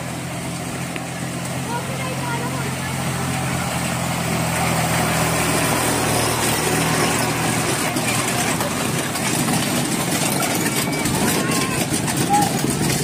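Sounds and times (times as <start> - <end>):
carriages rolling over gravel: 0.0 - 13.0
tractor engine running: 0.0 - 13.0.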